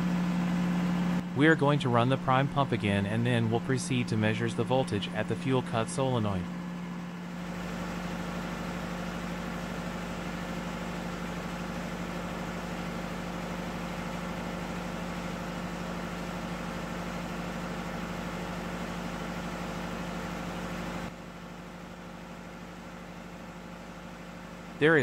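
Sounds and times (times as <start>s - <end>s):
fuel pump humming: 0.0s - 25.0s.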